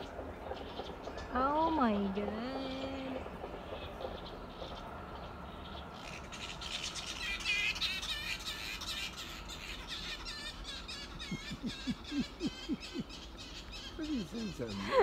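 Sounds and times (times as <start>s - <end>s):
flying foxes chattering squawks: 0.0s - 15.0s.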